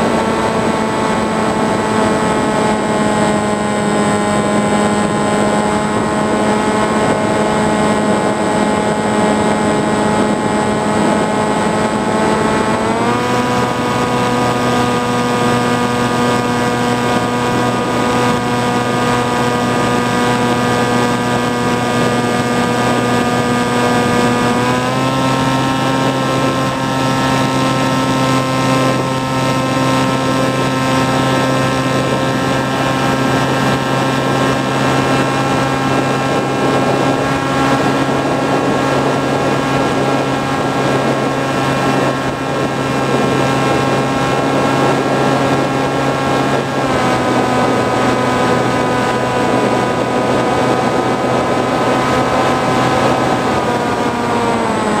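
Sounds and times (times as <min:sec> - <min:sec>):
model aircraft motor whine: 0:00.0 - 0:55.0
rushing air: 0:00.0 - 0:55.0.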